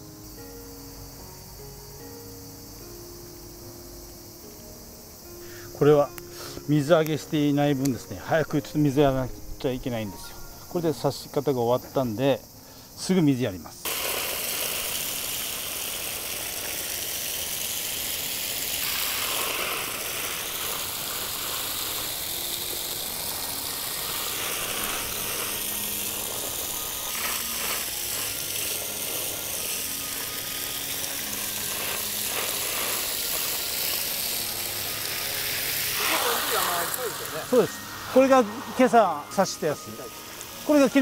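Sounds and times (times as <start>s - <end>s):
hose spraying water on plants: 0.0s - 41.0s.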